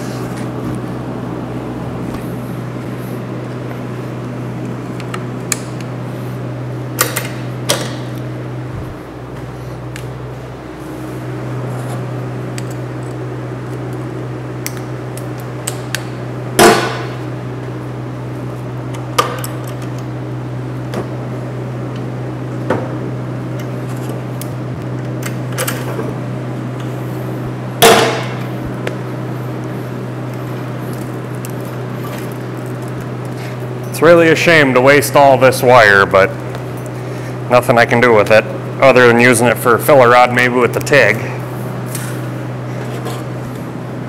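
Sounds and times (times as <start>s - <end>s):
welding machine hum: 0.0s - 44.0s.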